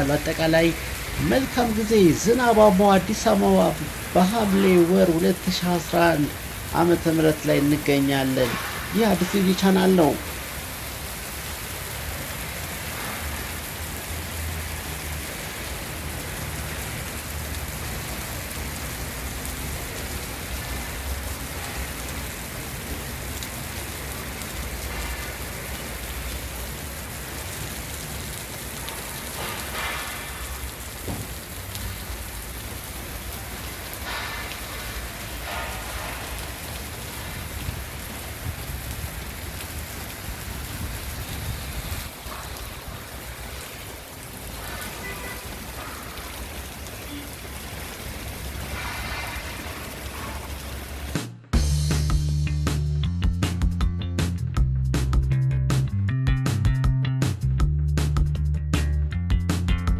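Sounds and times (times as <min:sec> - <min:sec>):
heavy rain pouring: 0:00.0 - 0:56.7.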